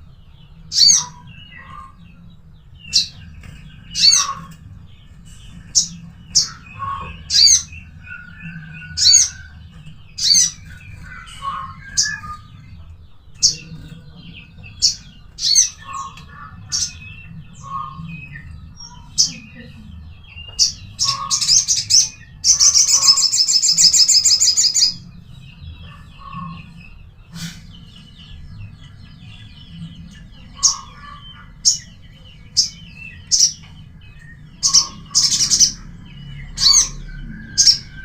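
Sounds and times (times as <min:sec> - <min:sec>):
bird chirping: 0:00.0 - 0:38.0.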